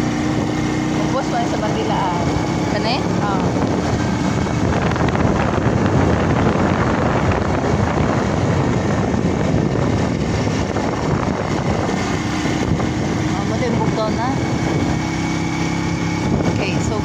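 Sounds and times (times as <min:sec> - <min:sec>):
vehicle engine and road noise: 0:00.0 - 0:17.0
wind rushing over microphone: 0:00.0 - 0:17.0.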